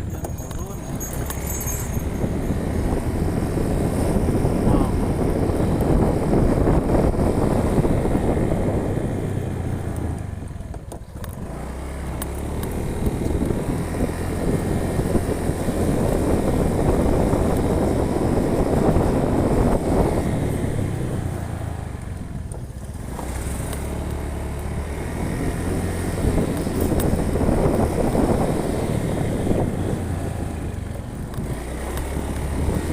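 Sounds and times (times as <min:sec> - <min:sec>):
road noise rumble: 0:00.0 - 0:32.9
vehicle engine hum: 0:00.0 - 0:32.9.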